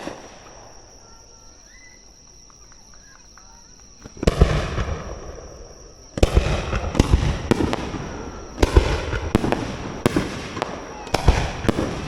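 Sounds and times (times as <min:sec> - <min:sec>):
firework bangs: 0:00.0 - 0:01.2, 0:03.0 - 0:12.0
firework crackle: 0:00.0 - 0:01.4, 0:02.6 - 0:12.0.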